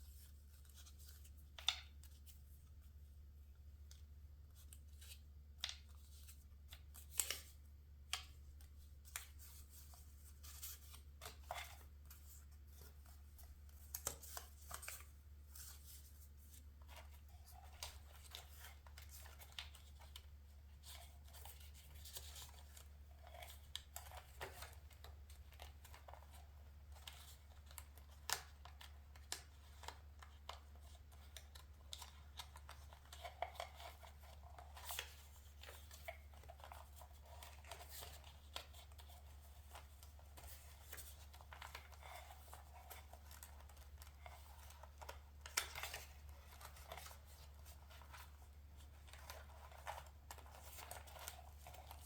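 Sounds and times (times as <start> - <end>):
paper rustling: 4.6 - 52.0.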